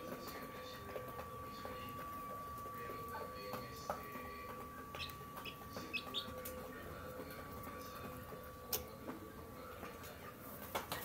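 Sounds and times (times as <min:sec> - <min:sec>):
chicks peeping: 0:00.0 - 0:11.0
faint steady hum: 0:00.0 - 0:11.0.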